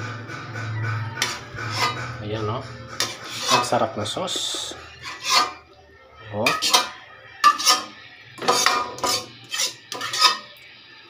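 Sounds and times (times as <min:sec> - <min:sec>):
metal spoon scraping metal pan: 0:01.2 - 0:10.6.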